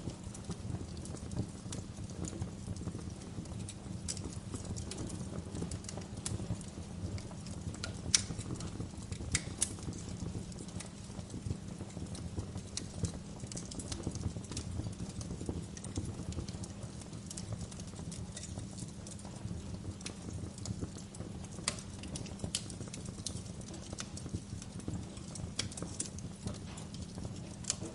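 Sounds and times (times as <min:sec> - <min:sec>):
fire popping: 0:00.0 - 0:27.9
wood fire crackling: 0:00.0 - 0:27.9.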